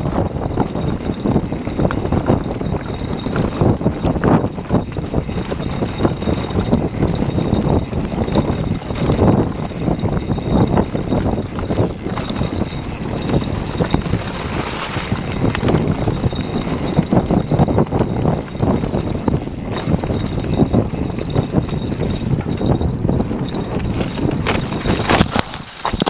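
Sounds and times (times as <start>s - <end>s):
bike rattling over bumps: 0.0s - 26.0s
bike tyres rumbling on dirt: 0.0s - 26.0s.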